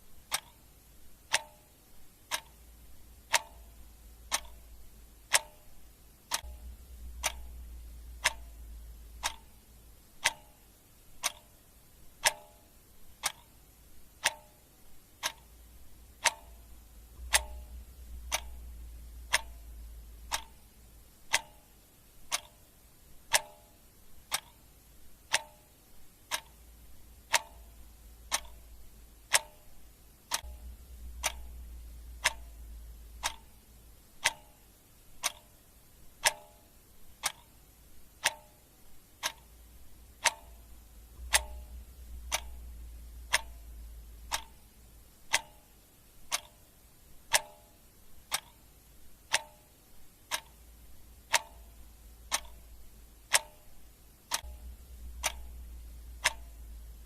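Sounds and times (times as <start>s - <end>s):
clock ticking: 0.0s - 57.0s
faint low rumble: 0.0s - 57.0s.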